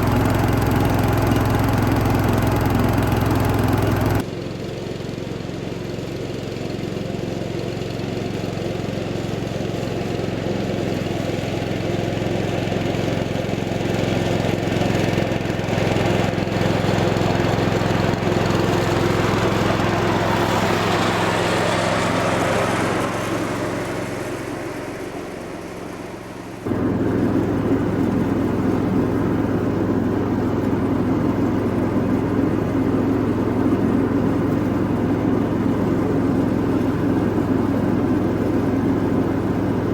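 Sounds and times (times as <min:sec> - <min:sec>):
garden tractor engine mowing: 0:00.0 - 0:39.9.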